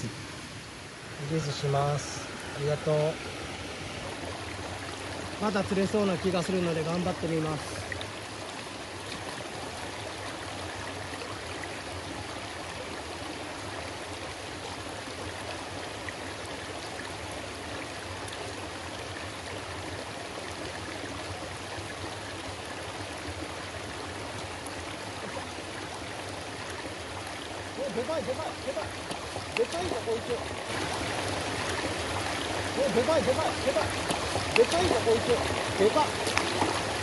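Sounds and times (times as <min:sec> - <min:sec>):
water rushing over weir: 0:00.0 - 0:37.0.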